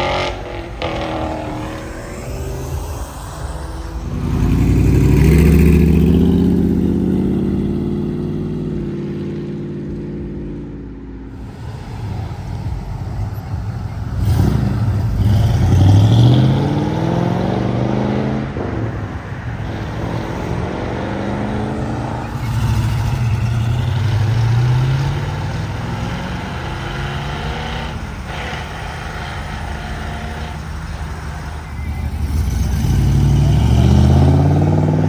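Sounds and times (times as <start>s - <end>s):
cars accelerating and revving: 0.0s - 35.0s
idling and passing traffic: 0.0s - 35.0s.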